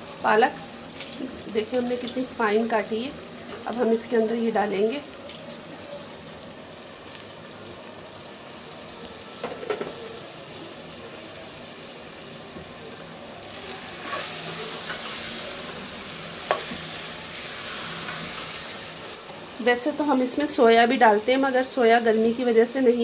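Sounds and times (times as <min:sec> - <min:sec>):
masala sizzling in metal pot: 0:00.0 - 0:23.0.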